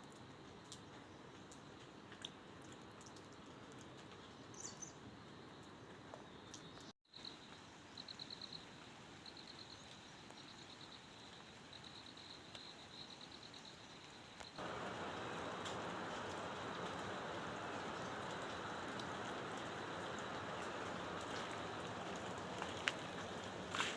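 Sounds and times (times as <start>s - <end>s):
faint outdoor hiss: 0.0s - 23.9s.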